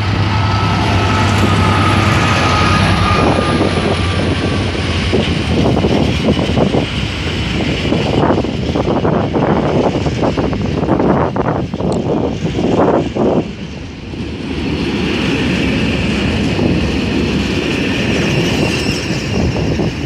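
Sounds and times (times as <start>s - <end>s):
diesel locomotive engine running: 0.0s - 20.0s
train wheels clattering over rails: 0.0s - 20.0s.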